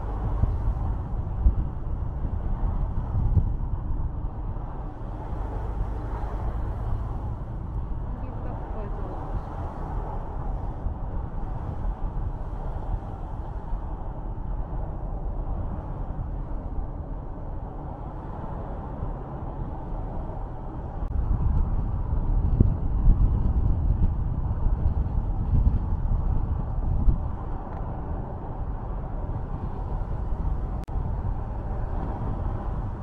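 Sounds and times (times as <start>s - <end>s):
low rumble: 0.0s - 33.0s
road and engine noise: 0.0s - 33.0s.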